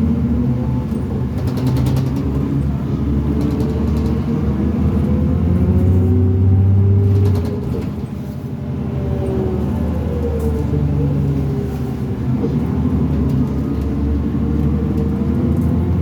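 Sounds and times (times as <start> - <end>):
bus diesel engine accelerating: 0.0 - 16.0.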